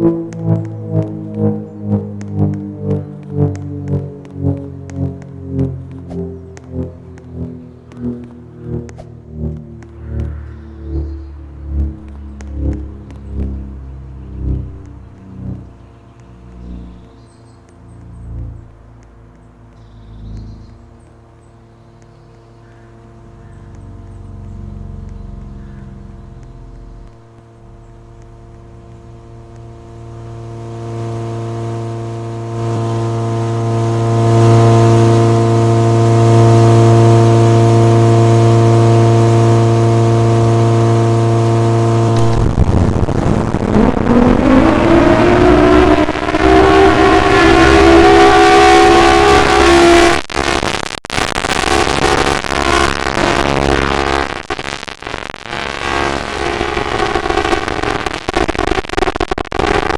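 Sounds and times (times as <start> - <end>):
tornado siren: 0.0 - 21.7, 22.6 - 59.9.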